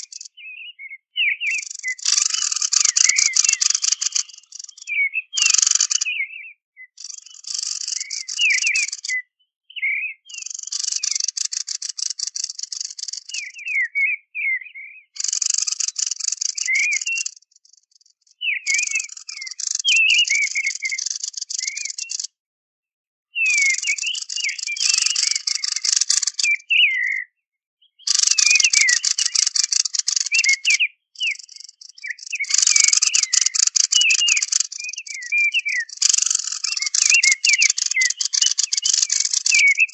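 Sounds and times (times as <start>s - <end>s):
harsh rattling bird chatter: 0.0s - 6.3s, 6.9s - 9.2s, 10.2s - 14.1s, 15.1s - 22.4s, 23.4s - 27.2s, 28.0s - 39.9s
thin whistled bird notes: 0.0s - 22.4s, 23.3s - 39.9s.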